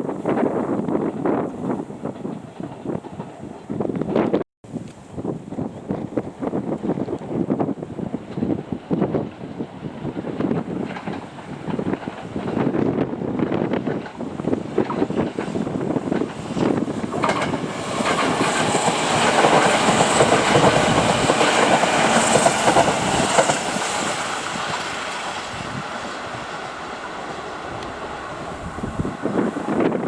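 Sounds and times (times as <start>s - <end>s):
train passing: 0.0s - 4.4s, 5.2s - 30.0s.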